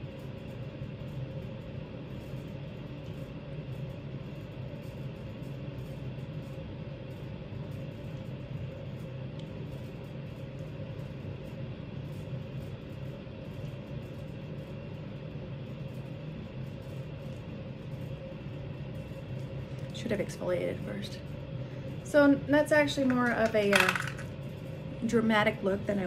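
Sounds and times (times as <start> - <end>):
low background rumble with hum: 0.0 - 26.0.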